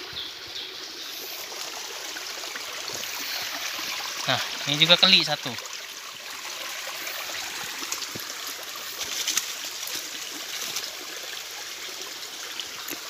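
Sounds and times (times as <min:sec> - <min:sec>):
stream trickling over rocks: 0:00.0 - 0:13.0.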